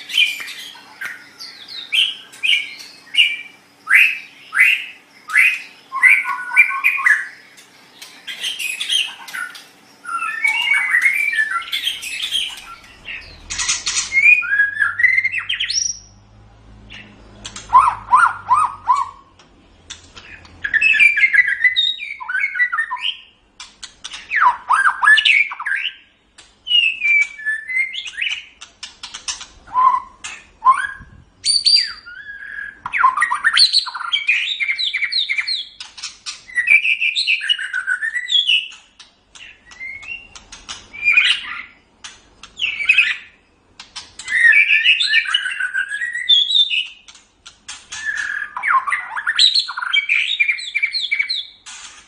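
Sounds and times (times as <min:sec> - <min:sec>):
bird singing whistles and trills: 0:00.0 - 0:16.2, 0:16.9 - 0:19.2, 0:20.2 - 0:23.3, 0:24.1 - 0:28.6, 0:29.7 - 0:38.8, 0:39.4 - 0:41.8, 0:42.5 - 0:43.4, 0:44.2 - 0:47.1, 0:47.9 - 0:51.7.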